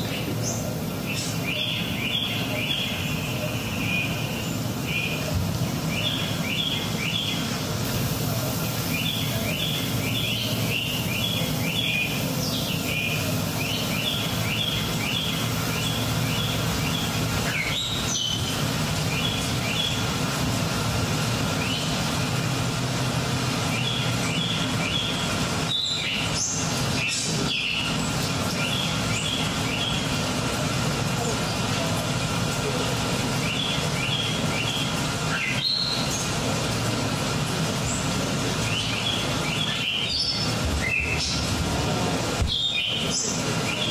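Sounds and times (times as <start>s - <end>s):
low hum and hiss: 0.0s - 43.9s
small birds chirping: 0.0s - 43.9s.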